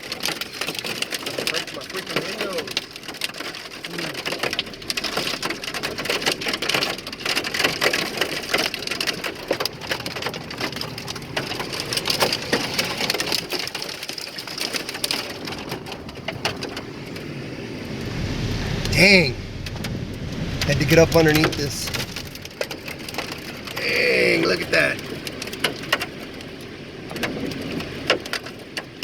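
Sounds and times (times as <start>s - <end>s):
hail pelting a vehicle: 0.0s - 29.0s.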